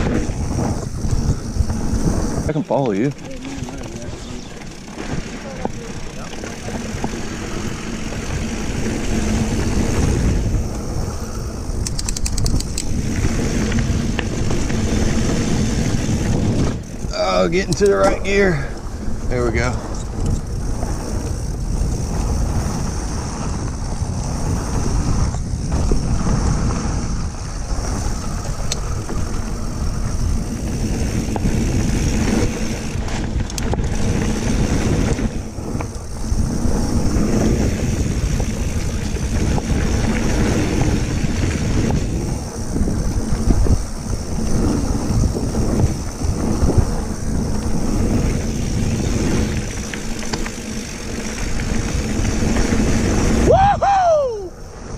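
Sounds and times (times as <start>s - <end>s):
tyres rolling on dirt: 0.0s - 53.8s
wind buffeting microphone: 0.0s - 54.9s.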